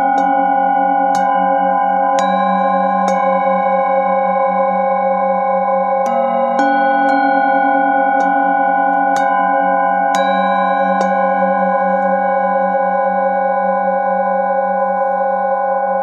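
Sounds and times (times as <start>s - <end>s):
bowl struck with mallet: 0.0s - 13.4s
singing bowls ringing: 0.0s - 16.0s.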